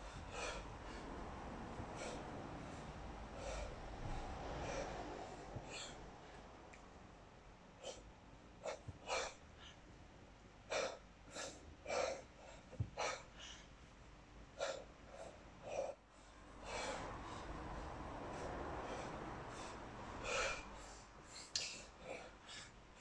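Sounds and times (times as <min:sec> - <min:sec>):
hard rhythmic breathing: 0:00.0 - 0:23.0.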